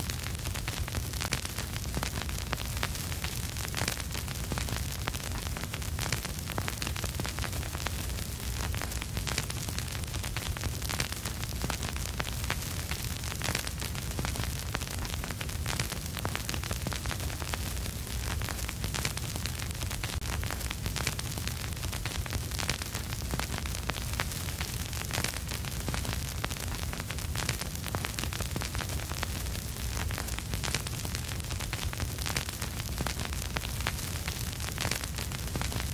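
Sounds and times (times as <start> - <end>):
vinyl crackle and pops: 0.0 - 35.9.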